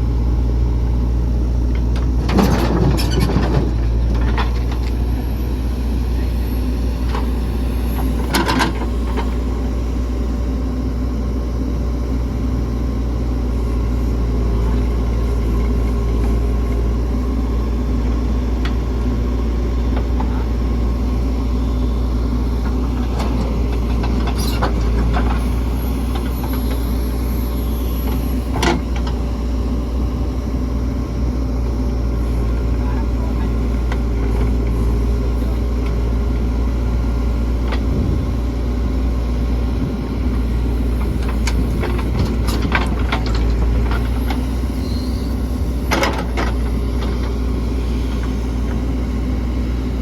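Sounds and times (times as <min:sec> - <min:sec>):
diesel engines running: 0:00.0 - 0:50.0.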